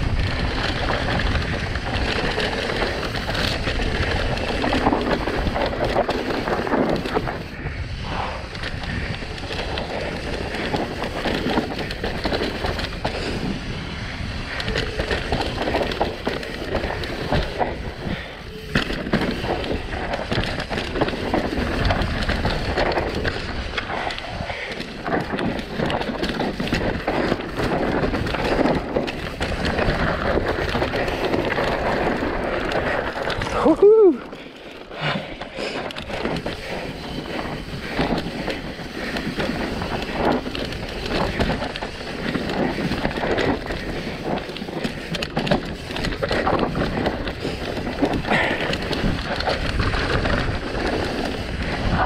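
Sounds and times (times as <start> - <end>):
bike rattling and clatter: 0.0 - 52.0
bike tyres rolling over dirt: 0.0 - 52.0
wind on microphone: 0.0 - 52.0.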